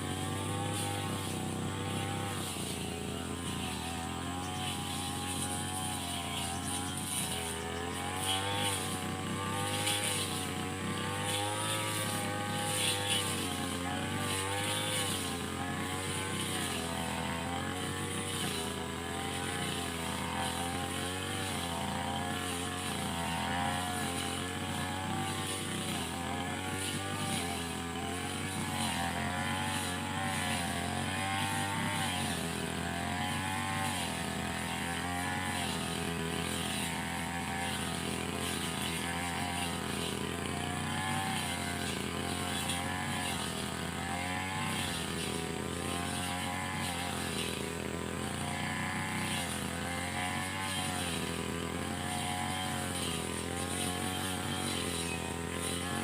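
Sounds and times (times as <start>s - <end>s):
brush cutter engine cutting grass: 0.0s - 56.0s.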